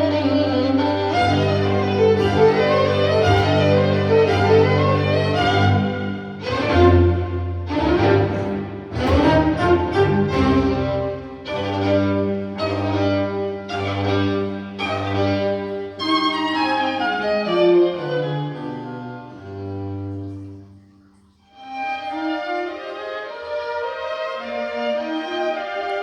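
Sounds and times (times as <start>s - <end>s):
classical string music on loudspeakers: 0.0s - 26.0s.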